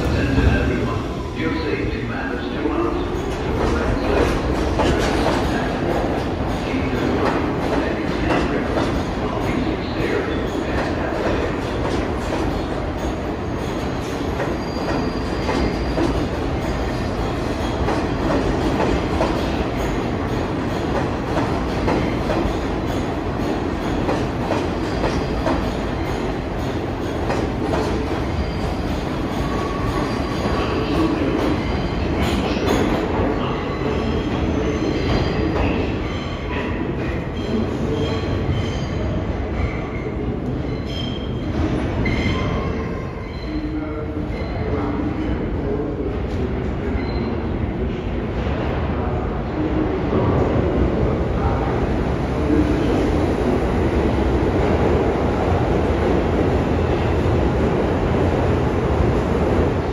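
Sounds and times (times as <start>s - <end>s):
subway wheel-on-rail clatter: 0.0s - 59.9s.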